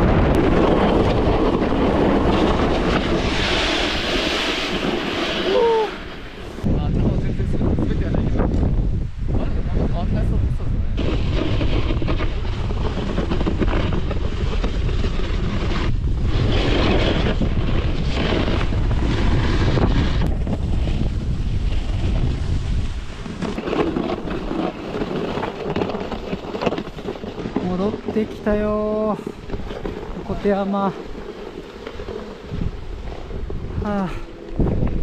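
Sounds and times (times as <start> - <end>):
snowboard scraping over snow: 0.0 - 35.0
wind buffeting microphone: 0.0 - 35.0.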